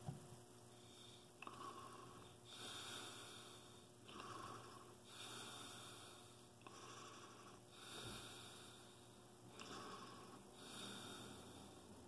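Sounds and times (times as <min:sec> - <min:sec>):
person breathing wheezily: 0:00.8 - 0:11.8.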